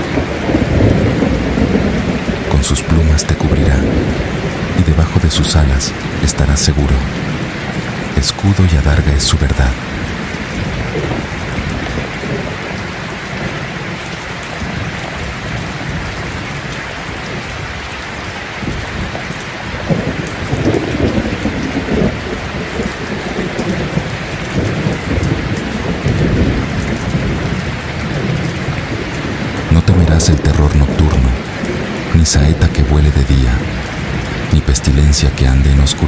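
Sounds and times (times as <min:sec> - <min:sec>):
steady rain falling: 0:00.0 - 0:36.0
thunder rumbling: 0:00.0 - 0:36.0.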